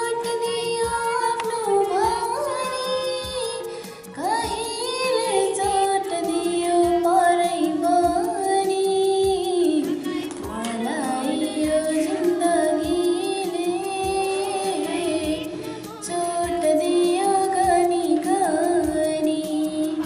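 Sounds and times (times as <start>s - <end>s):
girl singing solo: 0.0s - 20.0s.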